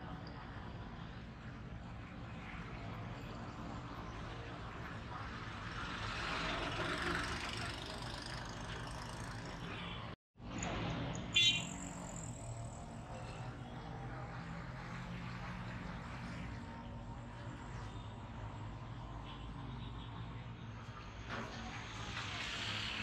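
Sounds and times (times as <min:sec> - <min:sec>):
busy street traffic: 0:00.0 - 0:23.0.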